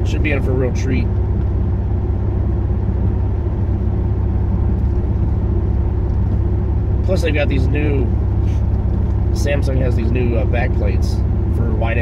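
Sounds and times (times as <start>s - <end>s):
car engine hum: 0.0s - 12.0s
tyre and road noise: 0.0s - 12.0s.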